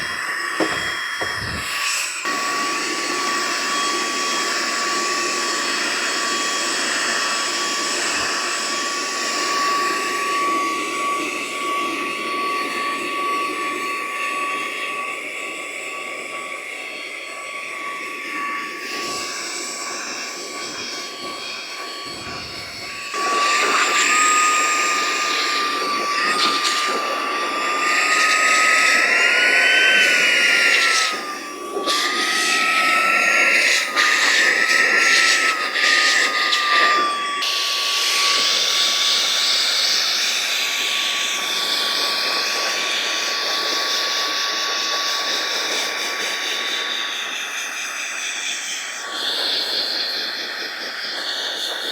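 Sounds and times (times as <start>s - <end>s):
air duster motor whining: 0.0s - 50.2s.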